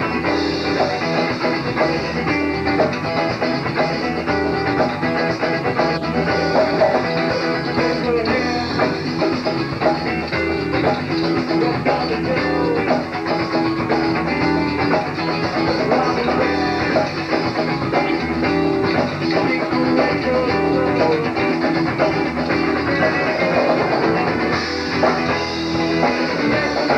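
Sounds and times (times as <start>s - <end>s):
guitar-led rock band playing: 0.0s - 26.9s.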